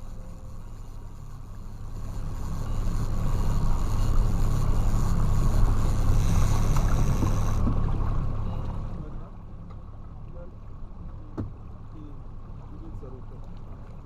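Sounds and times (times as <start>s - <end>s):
motorboat engine running: 0.0s - 14.0s
water noise: 0.0s - 14.0s
wind: 0.0s - 14.0s.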